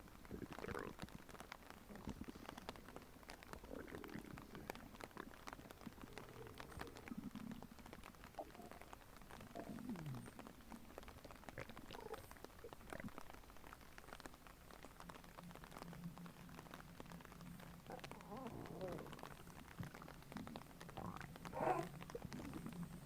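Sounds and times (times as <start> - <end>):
stomach gurgling: 0.0 - 23.0.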